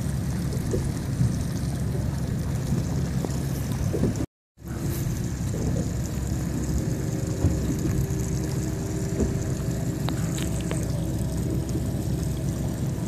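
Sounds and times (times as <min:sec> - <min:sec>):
motorboat engines rumbling: 0:00.0 - 0:13.0.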